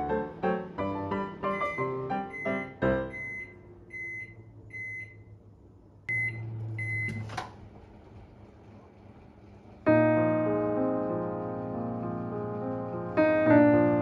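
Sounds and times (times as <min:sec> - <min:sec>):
microwave oven humming: 0:00.0 - 0:14.0.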